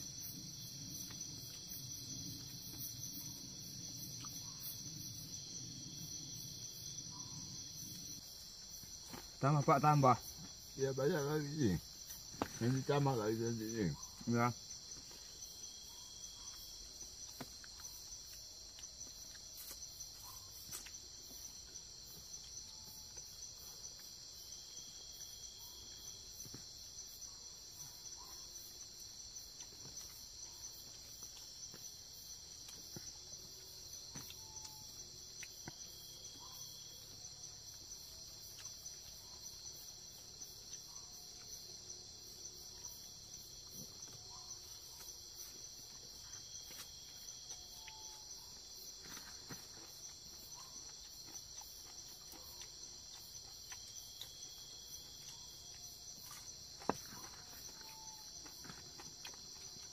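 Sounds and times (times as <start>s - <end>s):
crickets and insects buzzing: 0.0s - 59.9s.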